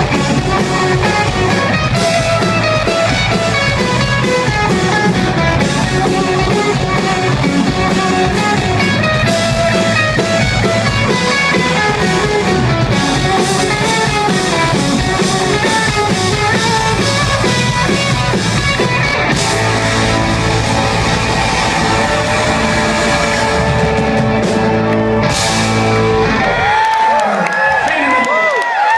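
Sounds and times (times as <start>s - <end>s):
rock band playing instrumental: 0.0s - 27.0s.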